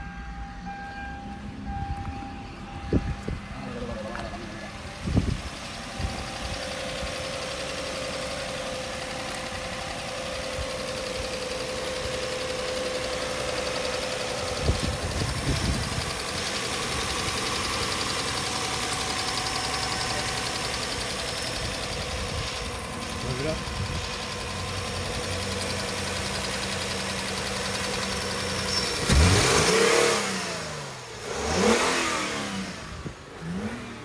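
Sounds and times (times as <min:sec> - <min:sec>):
car engine idling with ticking: 0:01.4 - 0:34.0.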